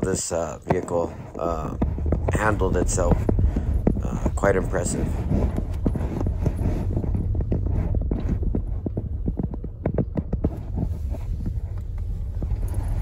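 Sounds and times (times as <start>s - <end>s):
car knocking over bumps: 0.0s - 13.0s
tyre and road rumble: 0.0s - 13.0s.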